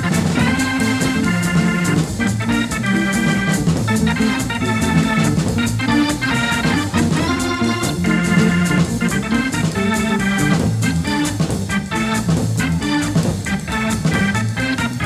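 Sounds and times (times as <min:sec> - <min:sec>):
drums on cymbals: 0:00.0 - 0:15.0
organ playing punchy chords: 0:00.0 - 0:15.0.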